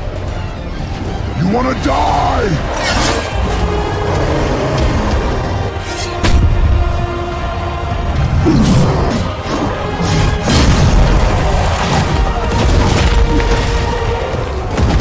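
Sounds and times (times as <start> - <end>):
dramatic orchestral film music: 0.0 - 15.0.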